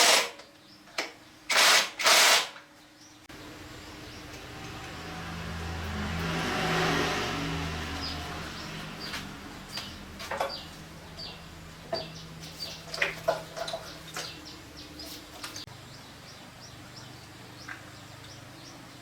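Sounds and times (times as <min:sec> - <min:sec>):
engine running: 0:03.3 - 0:19.0.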